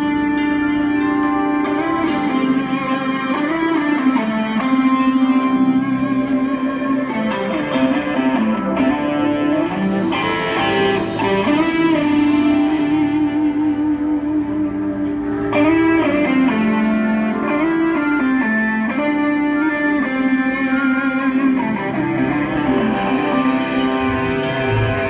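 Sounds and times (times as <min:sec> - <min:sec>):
drum kit: 0:00.0 - 0:25.0
electric guitar bending notes: 0:00.0 - 0:25.0
keyboard: 0:00.0 - 0:25.0.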